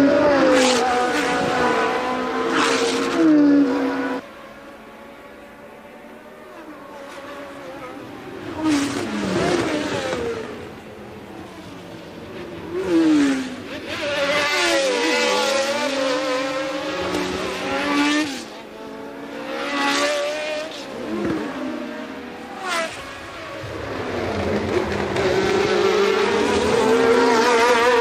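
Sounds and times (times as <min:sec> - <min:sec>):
race cars passing: 0:00.0 - 0:28.0.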